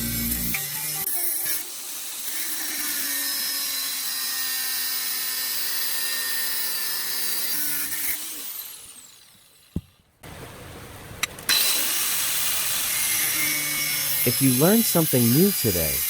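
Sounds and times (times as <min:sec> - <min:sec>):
angle grinder cutting: 0:00.0 - 0:09.7, 0:11.5 - 0:16.0.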